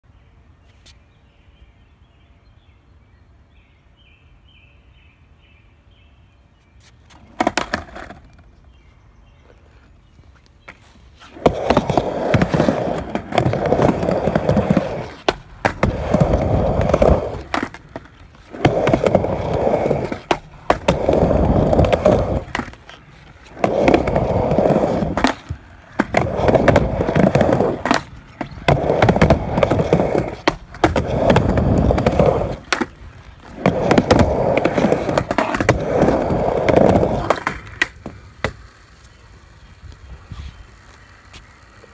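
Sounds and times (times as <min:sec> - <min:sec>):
skateboard wheels rolling on wood: 0:06.7 - 0:41.9.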